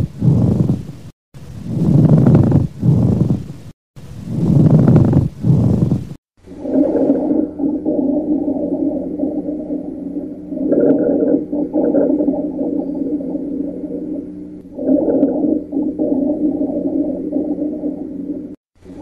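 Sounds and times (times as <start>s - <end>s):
rumbling lung breath sounds: 0.0s - 0.9s, 1.6s - 3.6s, 4.3s - 18.6s.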